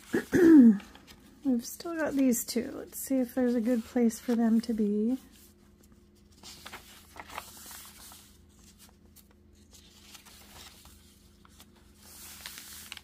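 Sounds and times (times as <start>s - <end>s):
paper pages rustling: 0.7s - 13.0s.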